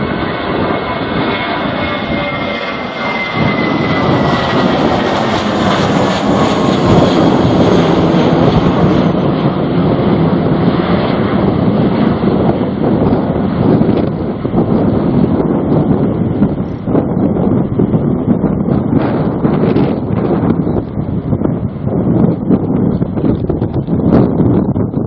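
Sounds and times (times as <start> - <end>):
jet airliner engine rushing: 0.0 - 25.0
wind buffeting microphone: 0.0 - 25.0.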